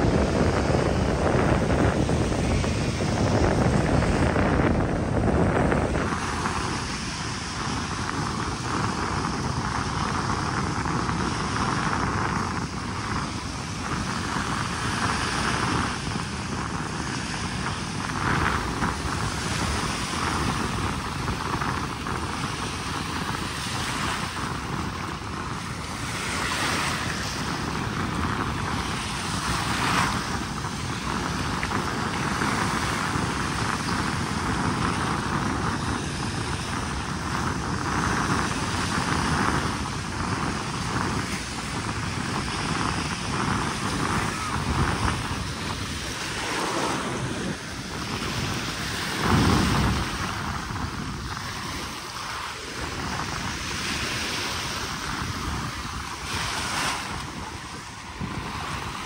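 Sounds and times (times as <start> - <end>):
small surf breaking on sand: 0.0 - 59.0
wind buffeting microphone: 0.0 - 59.0.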